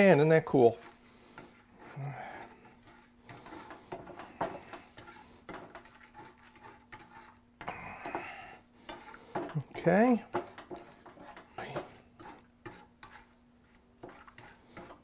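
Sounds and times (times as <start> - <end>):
spatula scraping a metal pan: 0.0 - 15.0.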